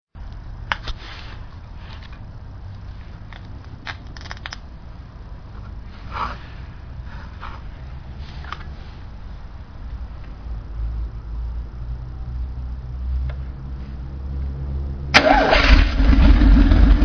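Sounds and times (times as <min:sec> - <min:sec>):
engine idling rumble: 0:00.2 - 0:17.0.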